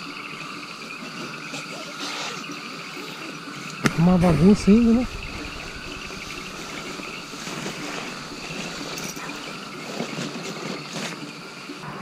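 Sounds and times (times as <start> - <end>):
faint insect chirping: 0.0 - 11.9
wind-like hiss: 0.0 - 12.0.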